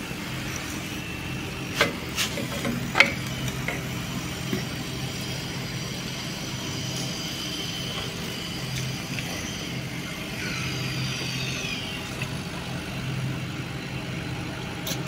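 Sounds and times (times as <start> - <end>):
compressor humming: 0.0 - 15.0.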